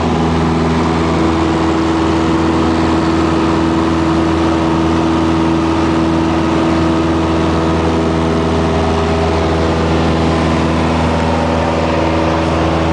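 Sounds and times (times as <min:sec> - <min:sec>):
propeller plane engine drone: 0:00.0 - 0:12.9.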